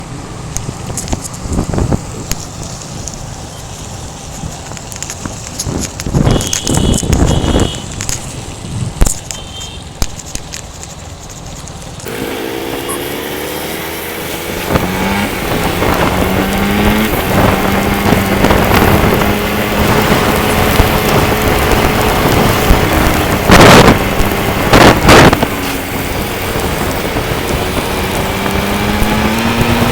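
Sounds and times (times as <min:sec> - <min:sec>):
bus engine running: 0:00.0 - 0:29.9
rain and road noise: 0:00.0 - 0:29.9.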